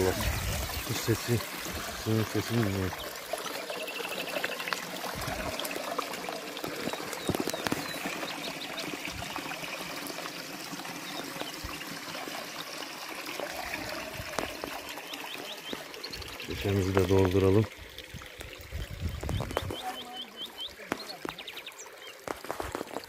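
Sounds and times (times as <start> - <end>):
water splashing into trough: 0.0 - 23.0.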